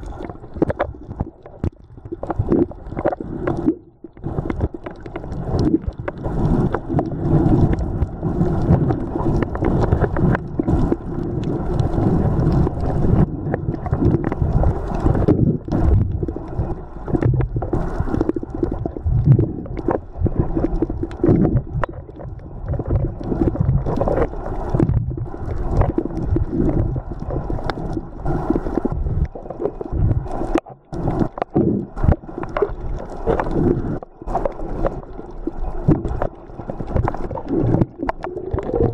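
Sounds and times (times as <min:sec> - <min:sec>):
underwater rumble and gurgling: 0:00.0 - 0:38.9.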